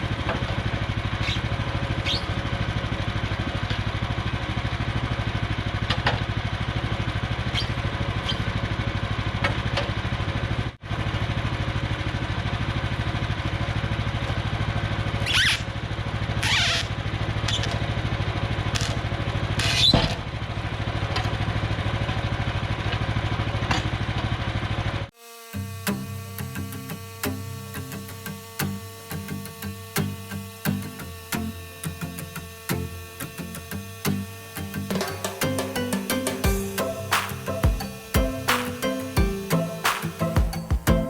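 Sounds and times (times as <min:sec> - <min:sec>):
sawmill gas engine running: 0:00.0 - 0:41.0.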